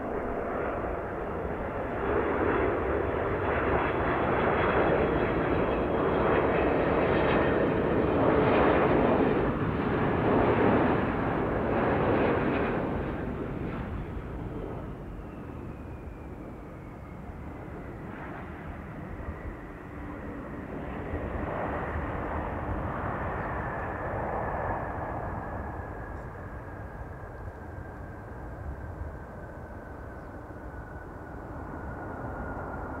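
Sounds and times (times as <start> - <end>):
jet engine roar with whine: 0.0 - 33.0.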